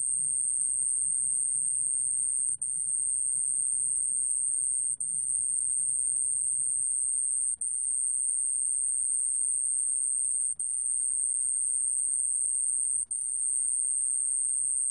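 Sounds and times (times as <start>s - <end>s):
cricket trilling: 0.0s - 14.9s.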